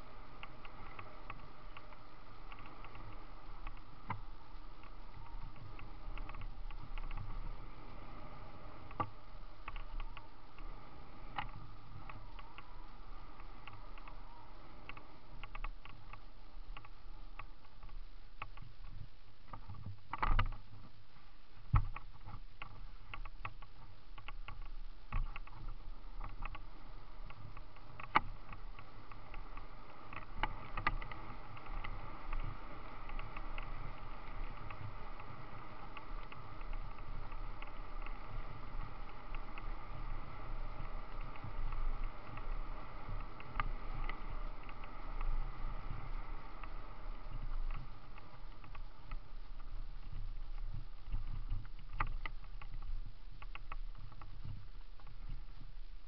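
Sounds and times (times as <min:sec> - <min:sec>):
bike tyres rolling on gravel: 0:00.0 - 0:56.0.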